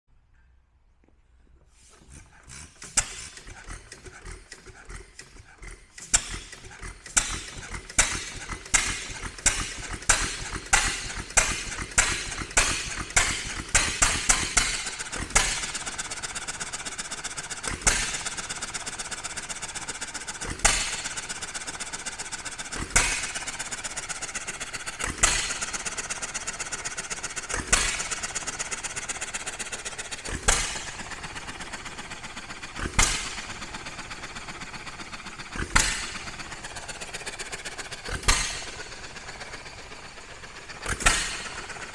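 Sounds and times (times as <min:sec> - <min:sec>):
fast engine clatter: 0:01.9 - 0:41.9
hit-and-miss engine firing: 0:02.1 - 0:41.9.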